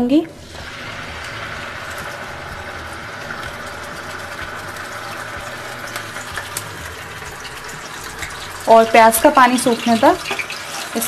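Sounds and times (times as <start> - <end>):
onion paste sizzling in oil: 0.0 - 11.0.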